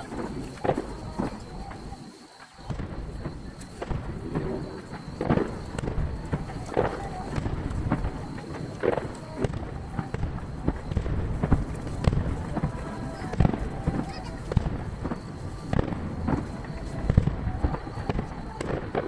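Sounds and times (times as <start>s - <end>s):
distant fireworks bangs: 0.0s - 19.0s.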